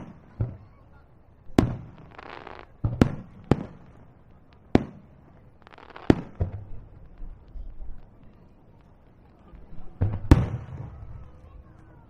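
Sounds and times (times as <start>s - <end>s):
crackling firework glitter: 0.0s - 12.0s.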